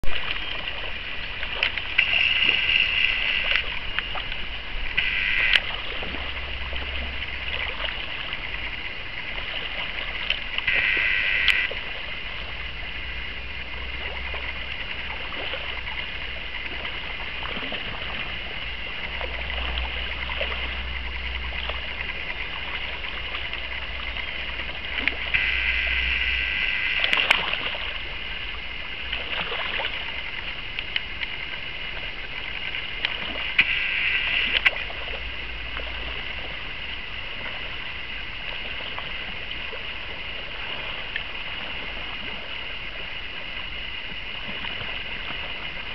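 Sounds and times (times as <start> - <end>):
fish splashing: 0.0 - 43.0
shallow river running: 0.0 - 45.9
wind rumbling on microphone: 0.0 - 45.9.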